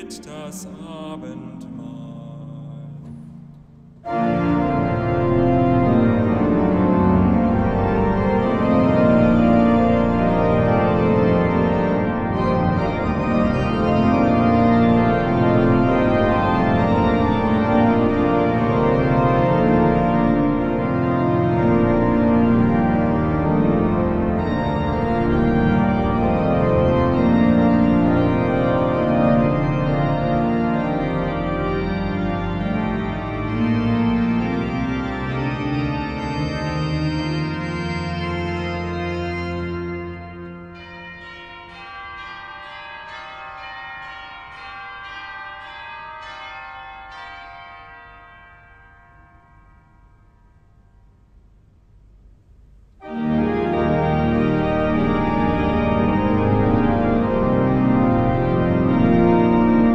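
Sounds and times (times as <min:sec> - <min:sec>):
pipe organ playing: 0:00.0 - 0:48.7, 0:53.0 - 0:59.9.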